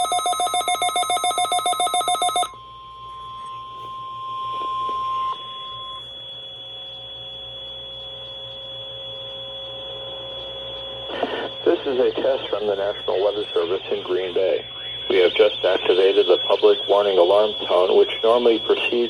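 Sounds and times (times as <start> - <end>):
rapid alarm beeps: 0.0 - 2.6, 3.5 - 19.0
steady warning alarm tone: 0.0 - 19.0.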